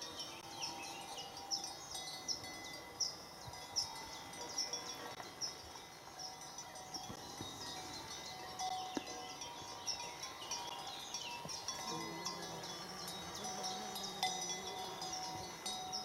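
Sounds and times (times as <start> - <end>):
horse collar bells ringing: 0.0 - 16.0.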